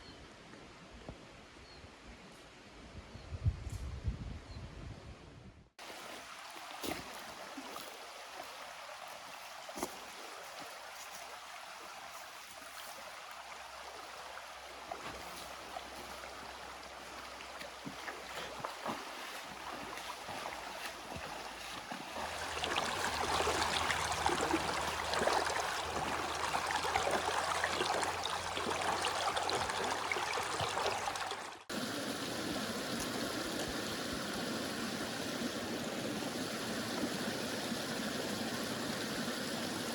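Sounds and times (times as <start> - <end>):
river water flowing: 5.8 - 39.9.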